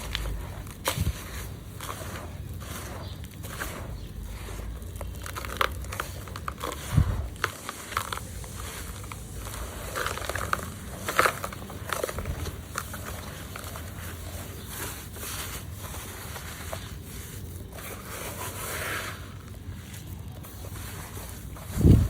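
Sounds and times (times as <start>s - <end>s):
dirt crackling and snapping: 0.0s - 22.0s
gritty scraping and rustling: 0.0s - 22.0s.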